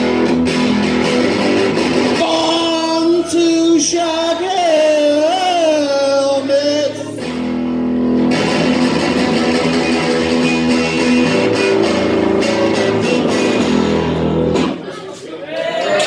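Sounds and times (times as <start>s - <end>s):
strummed guitar chords: 0.0s - 14.9s.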